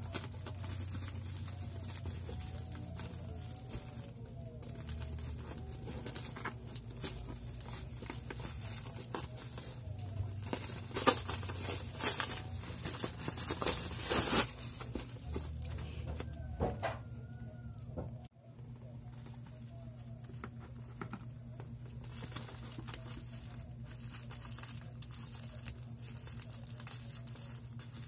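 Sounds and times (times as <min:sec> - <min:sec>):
plastic bag crinkling and tearing: 0:00.0 - 0:16.5, 0:19.1 - 0:28.0.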